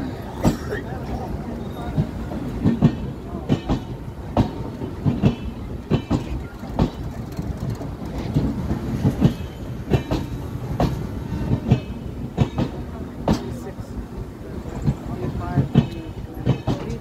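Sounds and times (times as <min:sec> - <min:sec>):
train rumble: 0:00.0 - 0:17.0
train wheels clacking: 0:00.3 - 0:13.8, 0:14.7 - 0:17.0.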